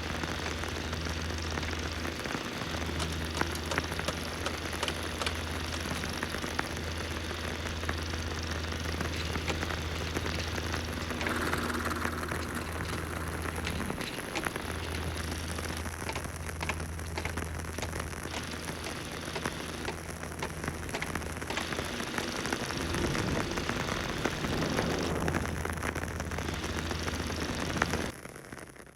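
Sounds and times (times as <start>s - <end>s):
steady low hum: 0.0s - 28.1s
film crackle and pops: 0.0s - 28.9s.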